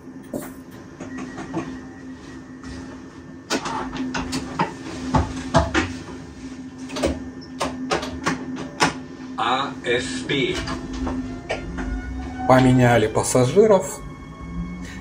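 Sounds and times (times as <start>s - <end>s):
train cab hum: 0.0s - 15.0s.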